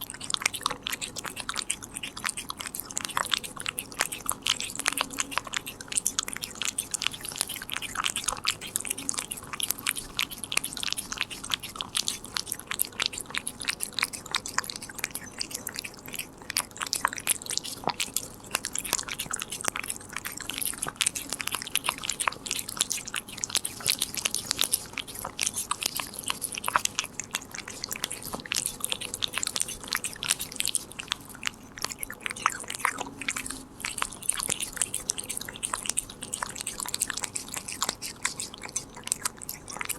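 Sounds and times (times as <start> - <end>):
cat chewing a treat: 0.0 - 39.9.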